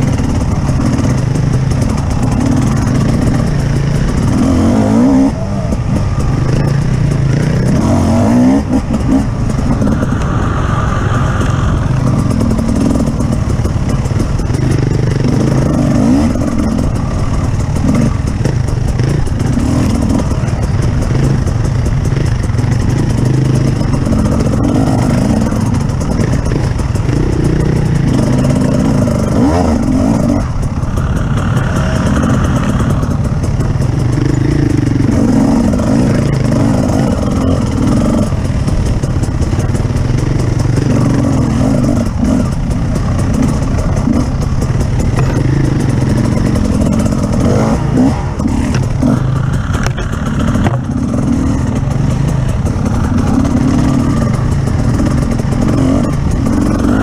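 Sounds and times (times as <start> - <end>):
off-road vehicle engine revving: 0.0 - 57.0
rattling: 0.0 - 57.0.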